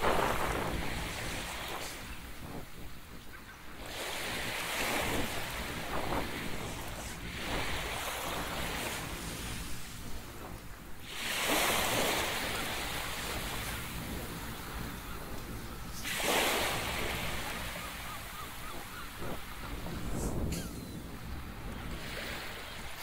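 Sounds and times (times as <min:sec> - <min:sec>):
waves washing on beach: 0:00.0 - 0:23.0
wind rumble on microphone: 0:00.0 - 0:23.0.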